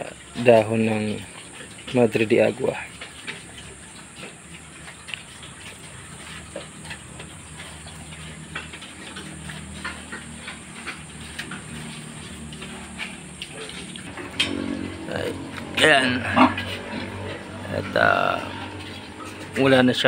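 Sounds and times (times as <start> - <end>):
piglets munching leaves: 0.0 - 20.0.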